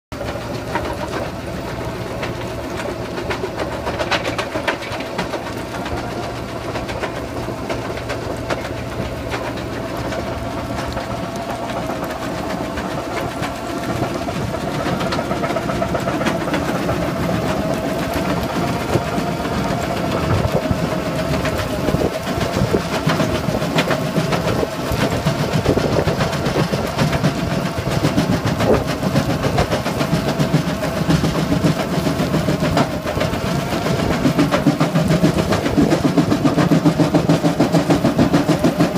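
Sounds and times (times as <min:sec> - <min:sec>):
excavator engine running: 0:00.1 - 0:38.9
hydraulic hum and whine: 0:00.2 - 0:38.9.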